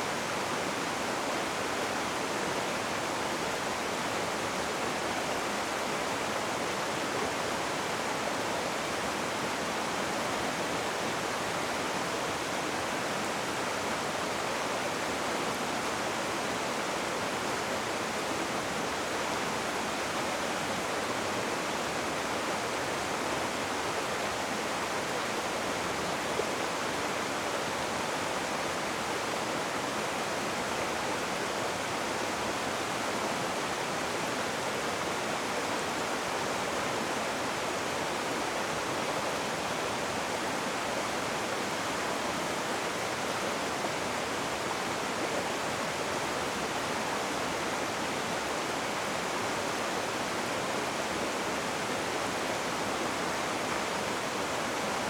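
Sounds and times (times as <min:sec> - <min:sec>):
rushing river water: 0:00.0 - 0:55.0.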